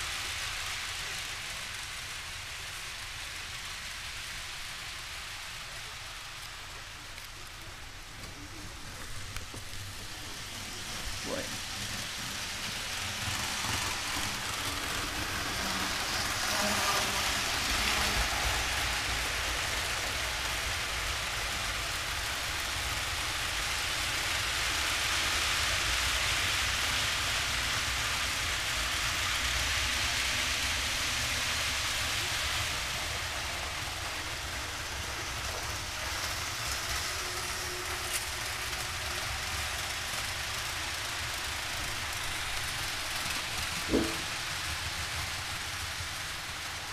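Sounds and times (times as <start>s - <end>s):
model trains rumbling on track: 0.0s - 46.9s.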